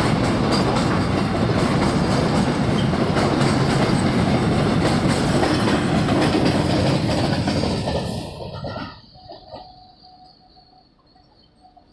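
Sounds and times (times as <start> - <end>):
wheels clacking over rail joints: 0.0 - 10.0
train wheels rumbling on rail: 0.0 - 11.7.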